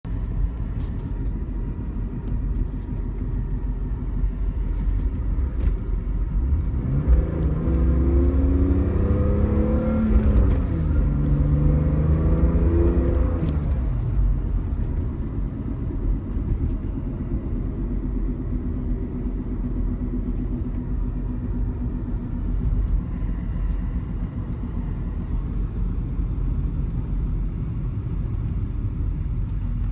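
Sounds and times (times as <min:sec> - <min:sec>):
car engine running: 0:00.1 - 0:29.9.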